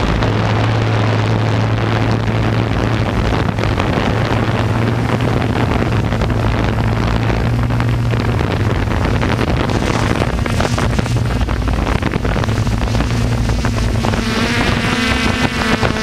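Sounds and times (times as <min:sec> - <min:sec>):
electric motors and propellers humming: 0:00.0 - 0:16.0
wind buffeting microphone: 0:00.0 - 0:16.0.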